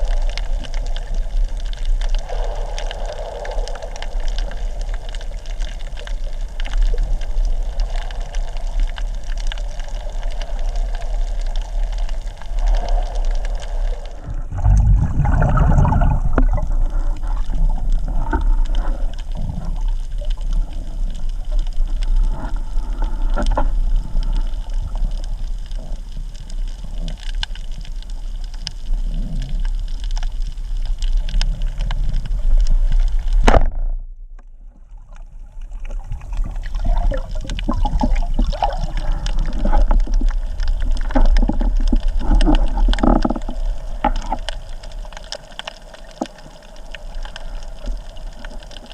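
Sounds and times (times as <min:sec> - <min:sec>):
water sloshing and bubbling: 0:00.0 - 0:48.9.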